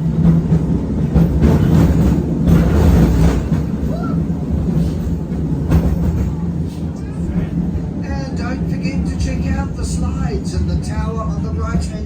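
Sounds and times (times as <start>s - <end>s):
tram motor hum: 0.0s - 11.5s
wheel and track rumble: 0.0s - 12.0s.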